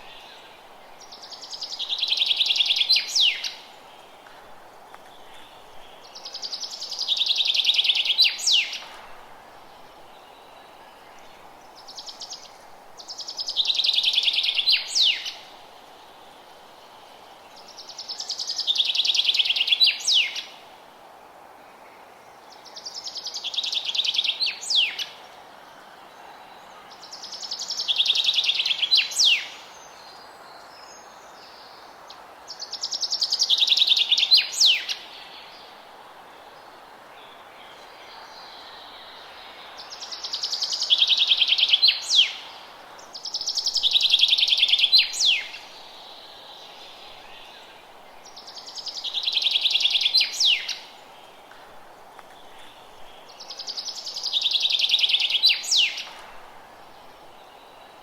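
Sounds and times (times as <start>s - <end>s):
faint steady background noise: 0.0s - 58.0s.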